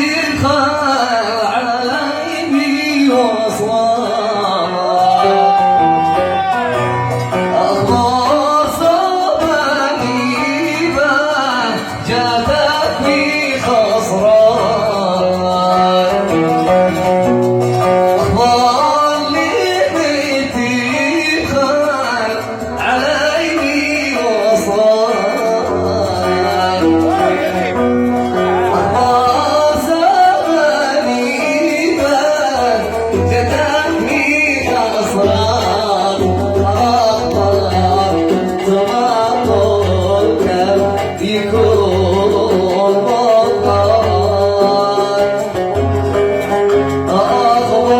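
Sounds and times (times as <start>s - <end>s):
man singing: 0.0s - 47.9s
oud playing: 0.0s - 47.9s.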